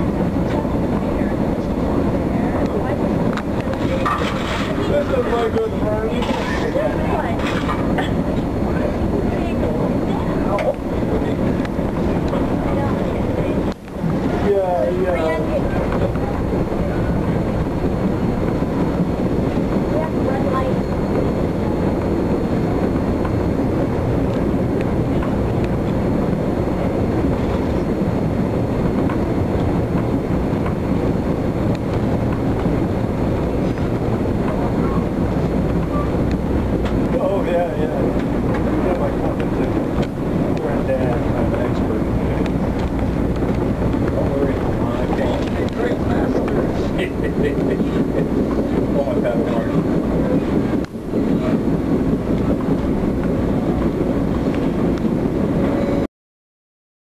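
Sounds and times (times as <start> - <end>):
train wheels rumbling on rails: 0.0 - 56.1.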